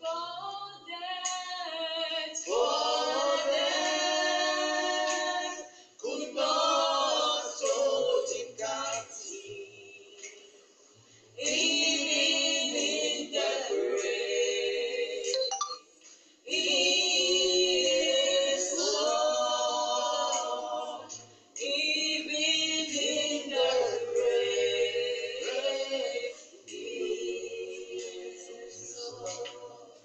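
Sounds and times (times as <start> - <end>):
group singing a worship song: 0.0 - 15.5, 16.1 - 30.0.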